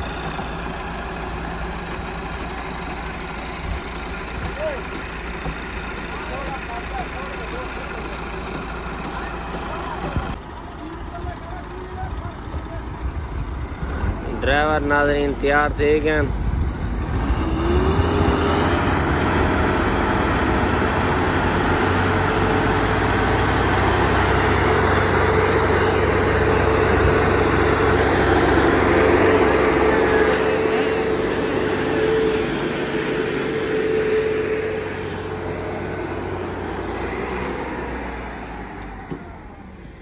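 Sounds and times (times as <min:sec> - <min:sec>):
tractor engines under heavy load: 0:00.0 - 0:40.0.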